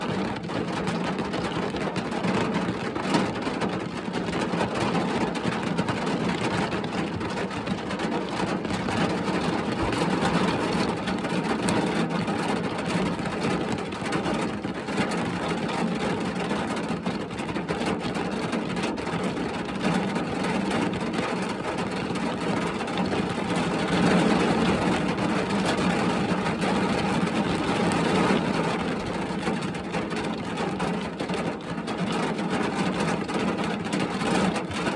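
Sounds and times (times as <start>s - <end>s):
rain pattering on a car: 0.0s - 34.9s.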